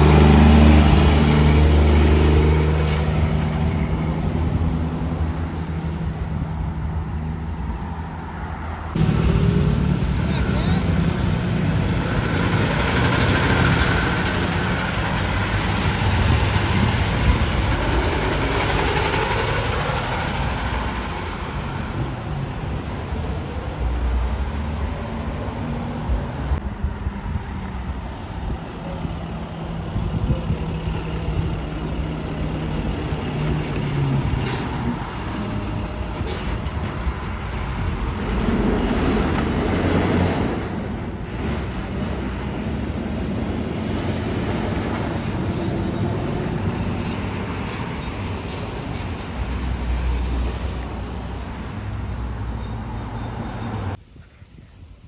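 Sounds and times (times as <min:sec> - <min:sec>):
road traffic passing: 0:00.0 - 0:54.2.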